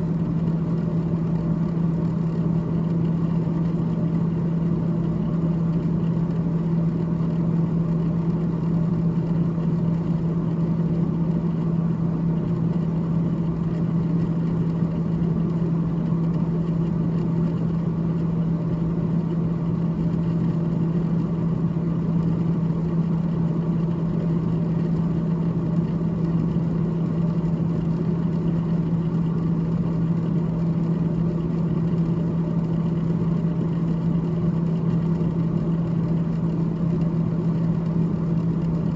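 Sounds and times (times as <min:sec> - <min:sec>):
freezer fan humming: 0:00.0 - 0:38.9.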